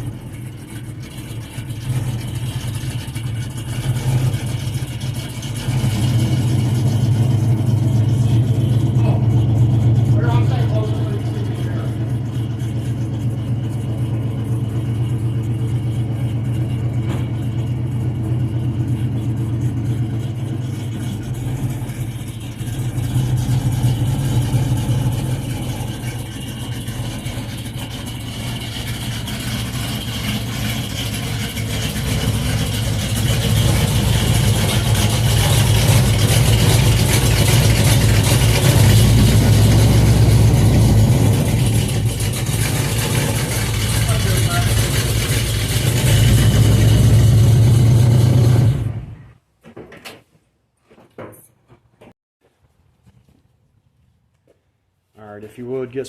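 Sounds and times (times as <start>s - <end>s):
car engine running: 0.0s - 49.3s.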